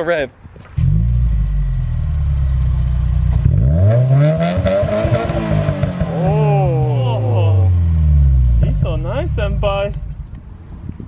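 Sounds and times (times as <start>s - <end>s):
car engine idling and revving: 0.8s - 11.0s.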